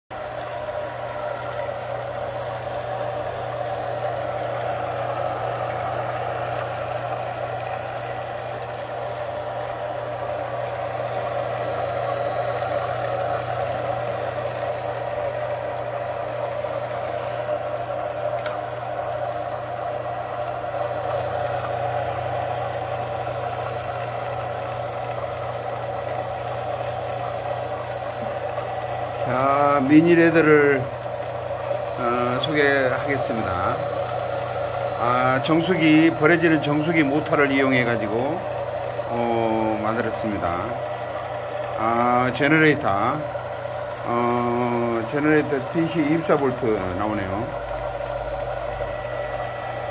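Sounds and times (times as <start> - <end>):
small lathe motor humming and whirring: 0.1 - 49.9.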